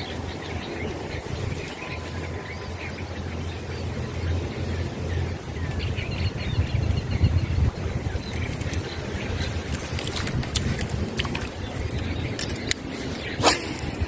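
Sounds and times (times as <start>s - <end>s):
birds chirping: 0.0s - 14.0s
wind rumbling on microphone: 0.0s - 14.0s.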